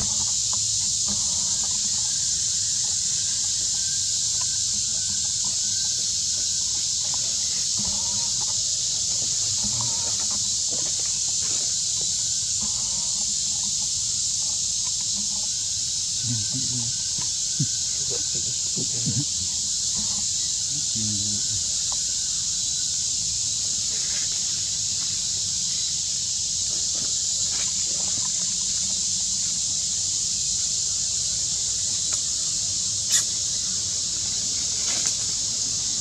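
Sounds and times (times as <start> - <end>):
insect chorus hissing: 0.0 - 36.0.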